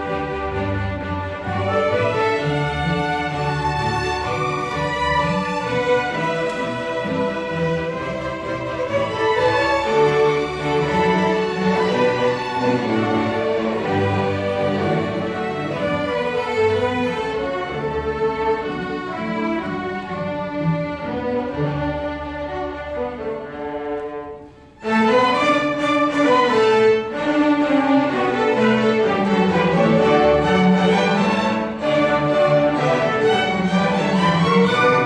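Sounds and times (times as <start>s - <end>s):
string orchestra playing: 0.0s - 35.0s.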